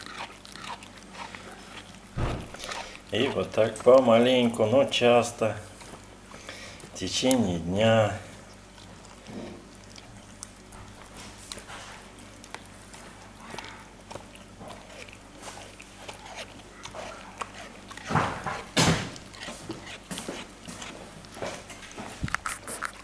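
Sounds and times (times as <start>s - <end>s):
dog licking and chewing meat: 0.0s - 23.0s.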